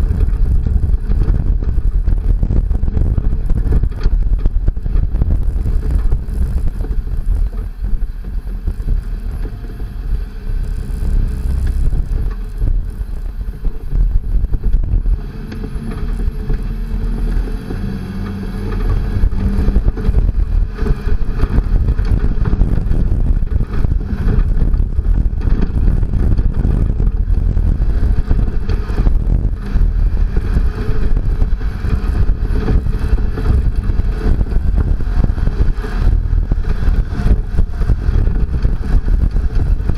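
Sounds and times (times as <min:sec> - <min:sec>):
knocks and rattles over bumps: 0:00.0 - 0:39.9
truck rumbling over dirt trail: 0:00.0 - 0:39.9.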